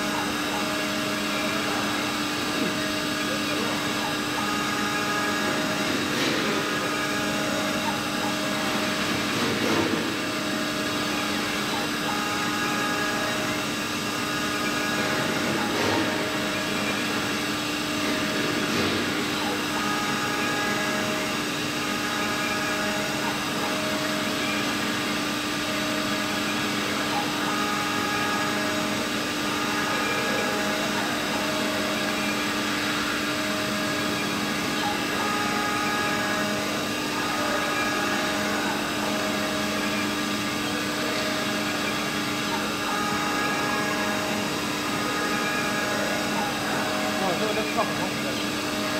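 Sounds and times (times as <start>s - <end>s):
cnc router spindle whine: 0.0s - 48.9s.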